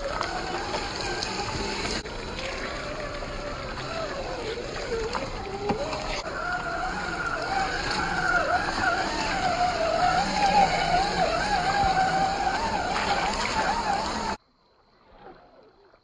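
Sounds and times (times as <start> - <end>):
small electric motor whining: 0.0 - 14.4.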